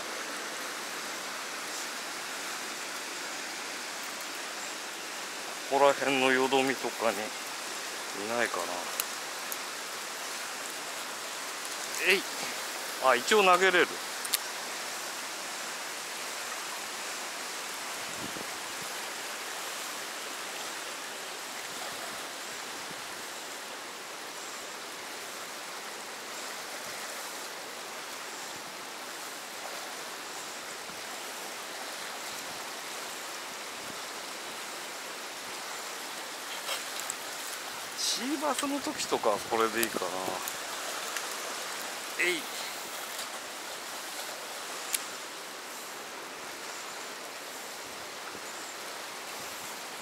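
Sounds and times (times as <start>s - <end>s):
river rushing over rapids: 0.0s - 50.0s.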